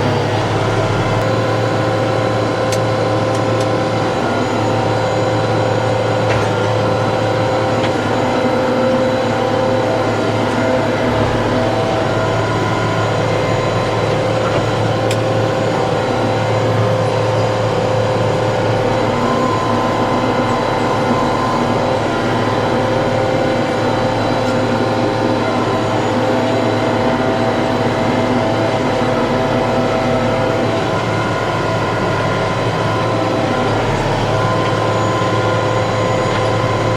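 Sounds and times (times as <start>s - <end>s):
mechanical whine: 0.0s - 36.9s
tractor diesel engine running: 0.0s - 36.9s.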